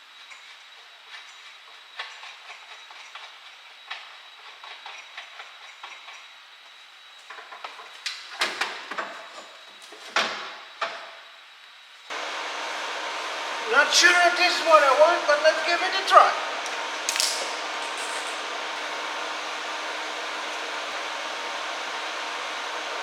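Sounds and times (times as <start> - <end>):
faint steady high whine: 0.0 - 23.0.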